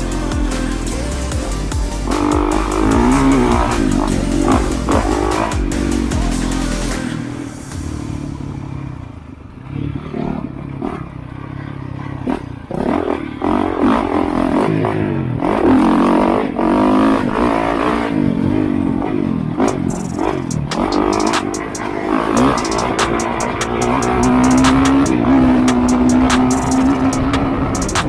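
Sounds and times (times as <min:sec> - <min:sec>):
dirt bike engine revving: 0:02.0 - 0:06.6, 0:08.0 - 0:28.0.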